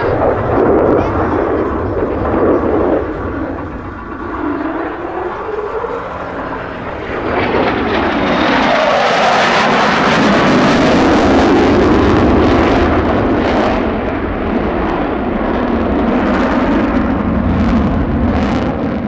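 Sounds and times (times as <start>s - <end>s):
jet engine rushing noise: 0.0s - 19.0s.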